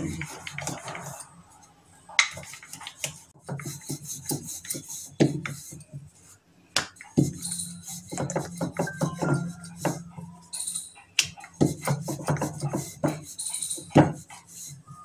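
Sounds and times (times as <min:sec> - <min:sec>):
rolling pin rolling dough: 0:00.0 - 0:15.0.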